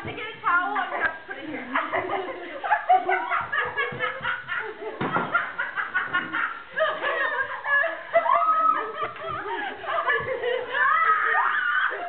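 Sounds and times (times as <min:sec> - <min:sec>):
women laughing and giggling: 0:00.1 - 0:12.0.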